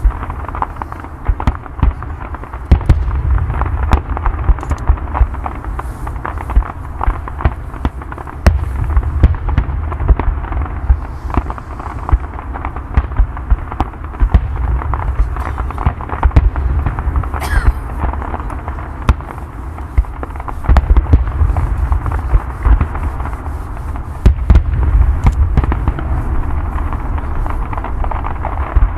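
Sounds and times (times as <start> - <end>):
deep rumble: 0.0 - 28.9
fireworks booming and popping: 0.0 - 28.9
fireworks crackle: 0.0 - 28.9.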